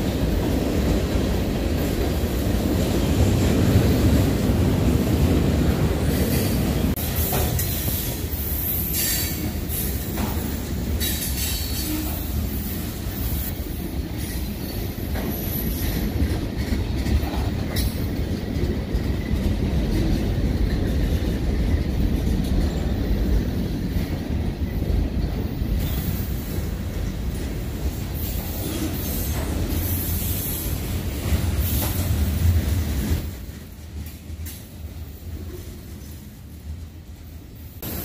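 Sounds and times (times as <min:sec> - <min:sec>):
steel wheels rumbling on rail: 0:00.0 - 0:38.0
sharp clanks of freight cars: 0:05.6 - 0:36.4.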